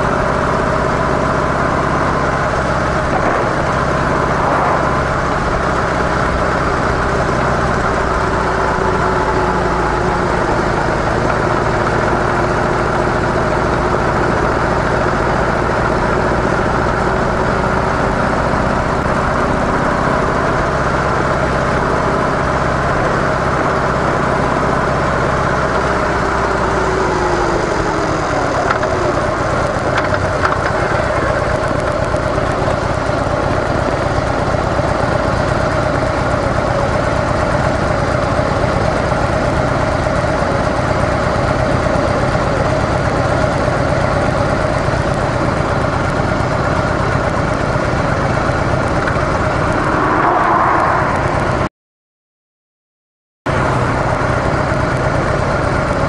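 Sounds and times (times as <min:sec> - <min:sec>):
motorcycle engine running: 0:00.0 - 0:51.7, 0:53.5 - 0:56.0.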